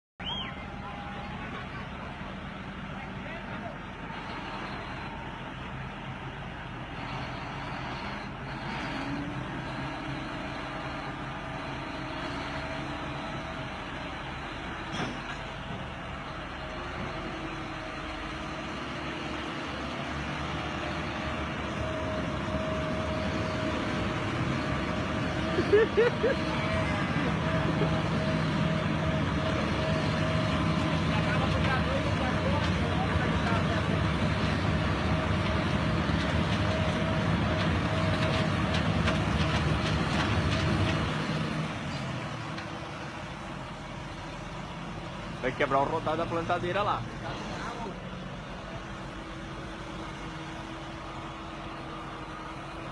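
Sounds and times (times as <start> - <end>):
engine whine: 0.2 - 52.9
tractor diesel engine under load: 0.2 - 52.9.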